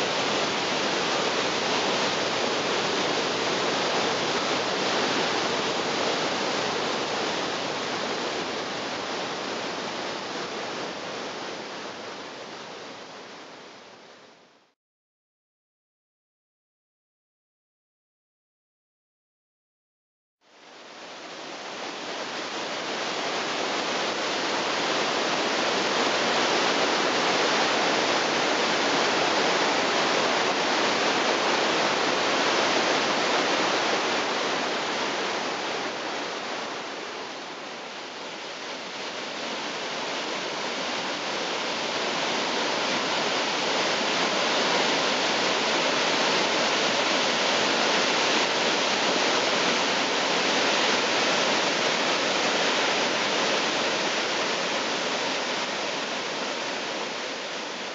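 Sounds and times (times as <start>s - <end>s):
waterfall crashing on boulders: 0.0s - 14.8s, 20.5s - 57.9s.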